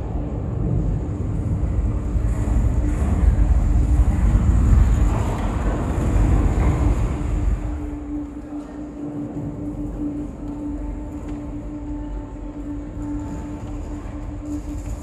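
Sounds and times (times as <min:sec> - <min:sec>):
deep rumbling ambient drone: 0:00.0 - 0:15.0
steady low hum: 0:00.0 - 0:15.0.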